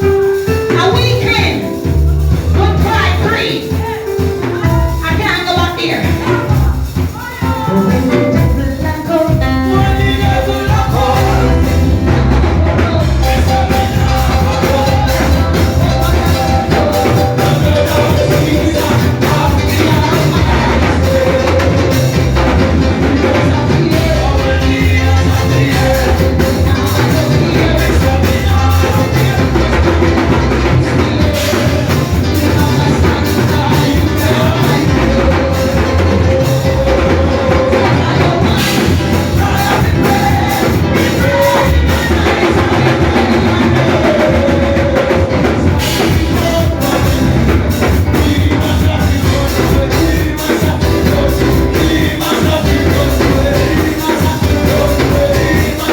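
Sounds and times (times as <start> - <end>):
live band with drums and bass: 0.0 - 55.9
singing: 5.4 - 55.9.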